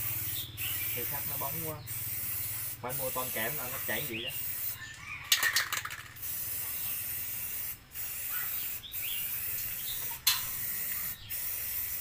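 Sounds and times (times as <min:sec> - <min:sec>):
spray-paint can hissing: 0:00.0 - 0:12.0.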